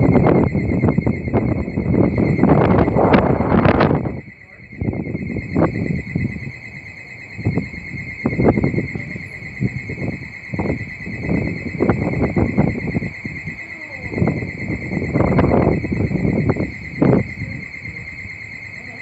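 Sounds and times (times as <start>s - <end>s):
steady high-pitched whine: 0.0s - 19.0s
wind buffeting microphone: 0.0s - 19.0s.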